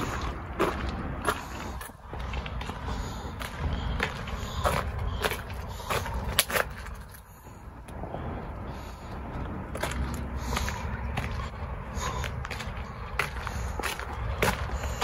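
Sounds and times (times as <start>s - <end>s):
footsteps on pavement: 0.0s - 15.0s.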